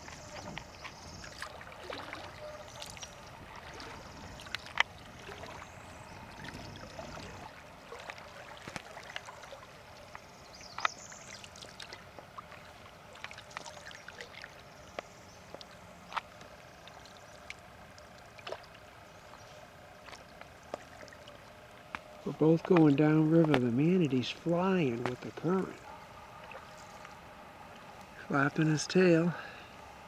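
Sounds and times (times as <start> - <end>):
water trickling and lapping: 0.0 - 30.0.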